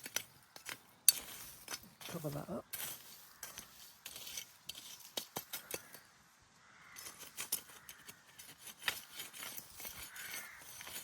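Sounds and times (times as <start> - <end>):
clicks of soil and grit: 0.0 - 6.2, 6.9 - 11.0
hand scraping soil: 0.0 - 6.2, 6.8 - 11.0.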